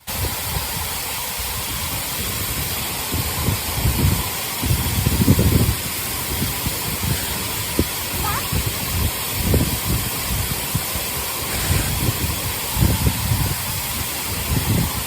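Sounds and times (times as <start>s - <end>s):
waterfall rushing: 0.1s - 15.0s.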